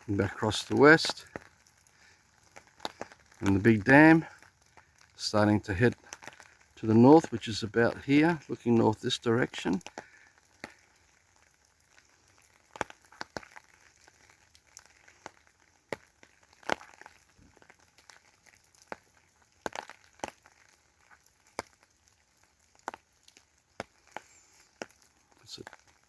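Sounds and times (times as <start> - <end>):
faint crackles and sharp clicks: 0.0 - 26.0.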